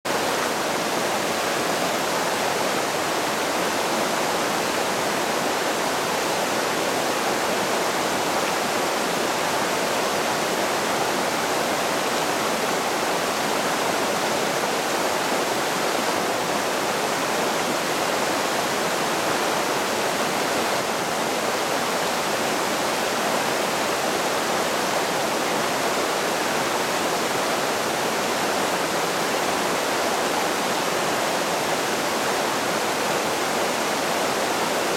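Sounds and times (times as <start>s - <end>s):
creek rushing over boulders: 0.1s - 34.9s.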